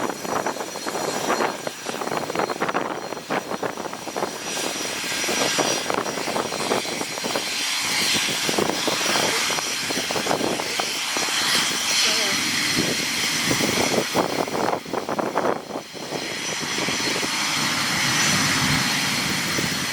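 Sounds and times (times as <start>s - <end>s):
jet engines whining: 0.0s - 19.9s.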